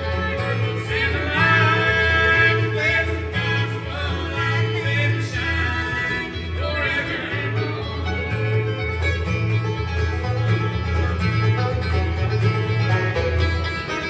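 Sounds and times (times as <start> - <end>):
banjo: 0.0 - 14.0
bluegrass band playing: 0.0 - 14.0
upright bass: 0.0 - 14.0.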